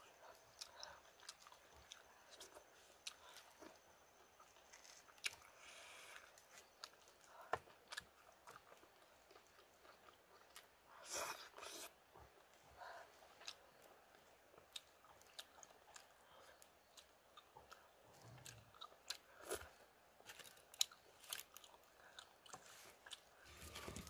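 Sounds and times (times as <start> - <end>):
faint chewing: 0.0 - 24.0.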